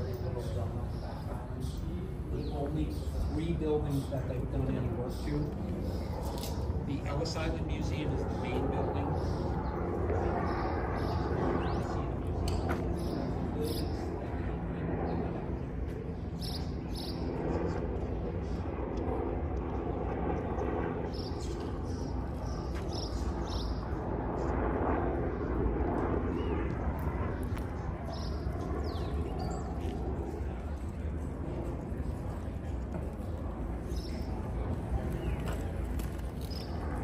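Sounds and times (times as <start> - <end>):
murmur of voices: 0.0 - 22.6, 24.0 - 37.0
distant traffic rumble: 0.0 - 37.0.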